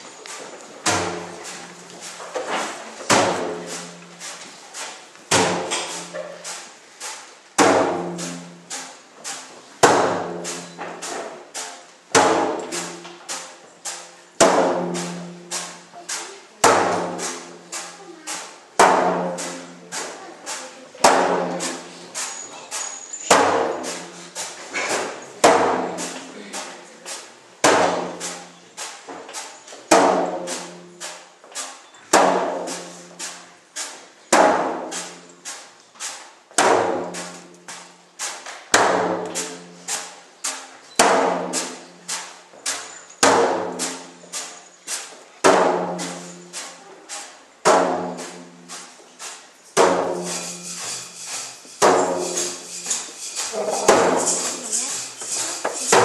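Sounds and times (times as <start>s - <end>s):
percussion music with steady beat: 0.0s - 56.0s.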